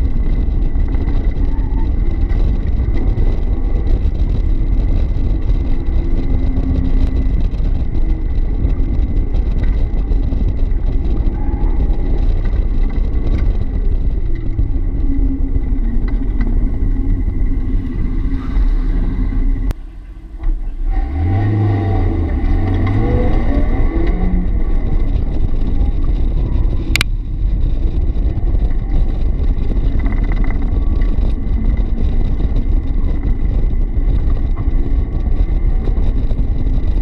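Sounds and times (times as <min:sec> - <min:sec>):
car engine revving: 0:00.0 - 0:37.0
wind rumble on microphone: 0:00.0 - 0:37.0.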